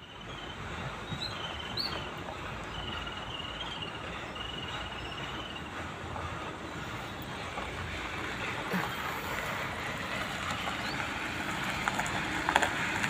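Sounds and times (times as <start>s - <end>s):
diesel engine running low: 0.0s - 13.0s
tyres rumbling on gravel: 0.0s - 13.0s.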